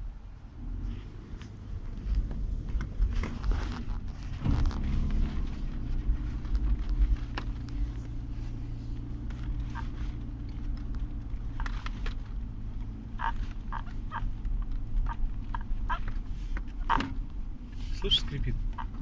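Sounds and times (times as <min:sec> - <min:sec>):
car rumbling on road: 0:00.0 - 0:19.0
leather seat creaking: 0:00.9 - 0:19.0.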